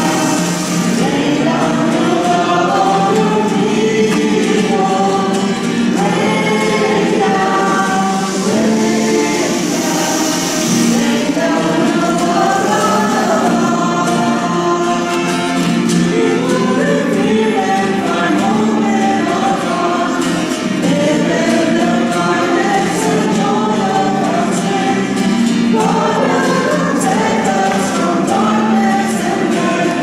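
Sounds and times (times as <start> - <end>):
choir singing gospel: 0.0 - 30.0.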